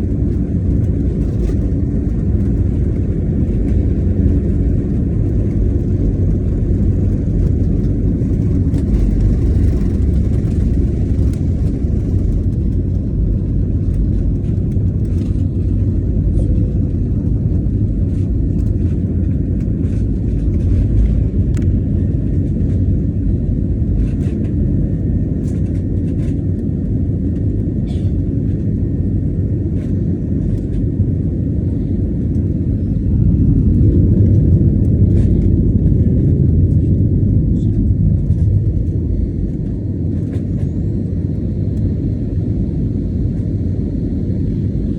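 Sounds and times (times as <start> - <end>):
jet engines rumbling in cabin: 0.0 - 44.9.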